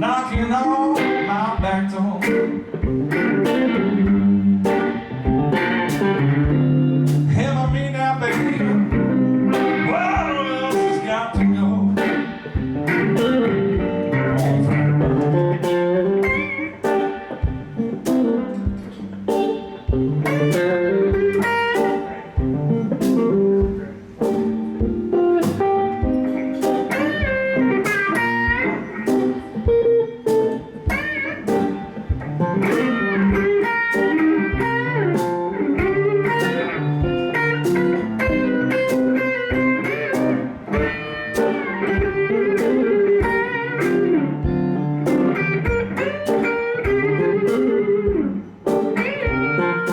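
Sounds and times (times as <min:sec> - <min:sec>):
band playing steady beat: 0:00.0 - 0:49.9
electric blues guitar solo: 0:00.0 - 0:49.9.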